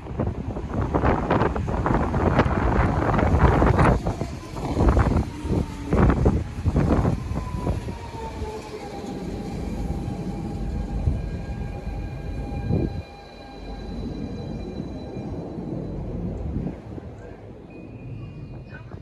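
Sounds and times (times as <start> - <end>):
electric train whine: 0.0 - 18.7.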